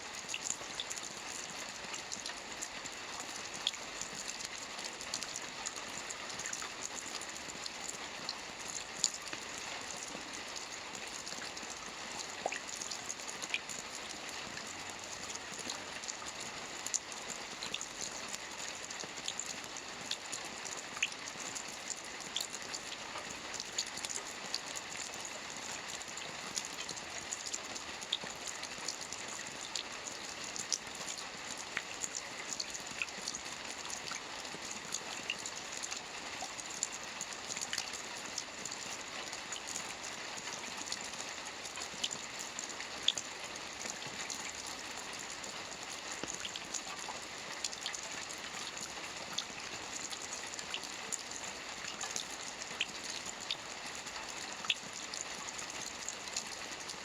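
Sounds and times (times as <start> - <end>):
gentle rain hiss: 0.0 - 57.0
raindrop ticks: 0.2 - 56.9.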